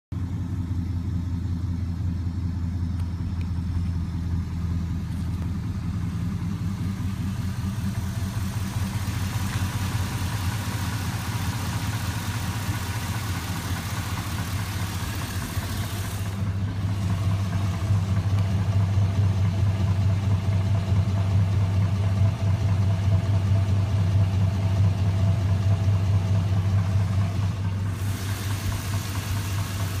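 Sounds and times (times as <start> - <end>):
engine idling with knock: 0.1 - 30.0.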